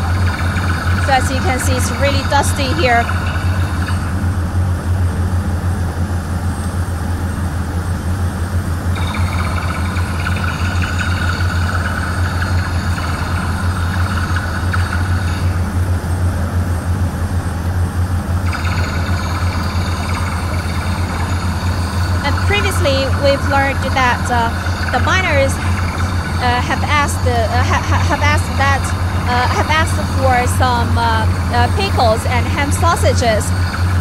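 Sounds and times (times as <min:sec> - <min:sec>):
heavy engine droning: 0:00.0 - 0:34.0.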